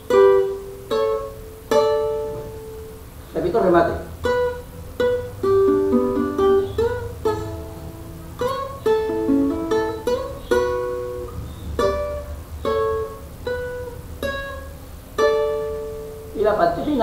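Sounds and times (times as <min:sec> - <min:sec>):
acoustic guitar picking melody: 0:00.0 - 0:17.0.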